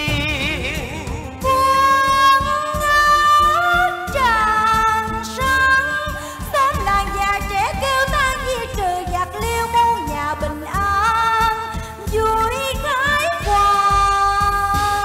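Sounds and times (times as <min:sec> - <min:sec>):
opera band accompaniment: 0:00.0 - 0:15.0
woman singing ornamented line: 0:00.0 - 0:15.0.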